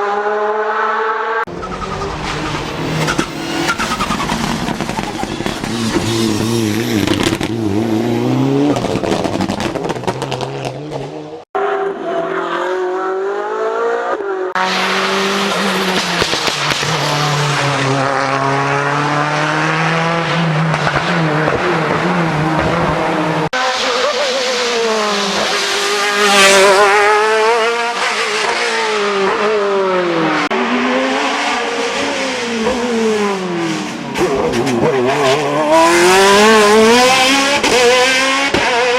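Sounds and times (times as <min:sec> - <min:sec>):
racing car engines at full throttle: 0:00.0 - 0:38.9.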